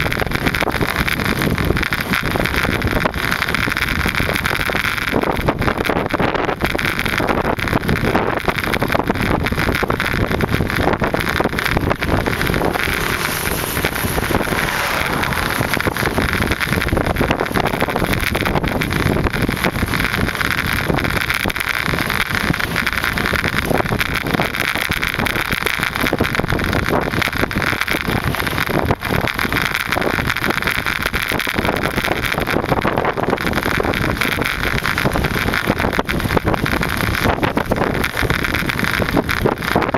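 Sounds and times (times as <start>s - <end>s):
wind rushing over microphone: 0.0s - 39.9s
road noise: 6.2s - 39.9s.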